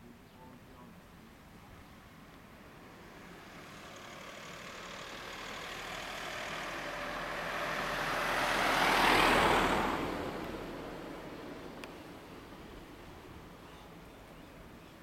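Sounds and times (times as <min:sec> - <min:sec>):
road vehicle passing: 0:01.8 - 0:15.0.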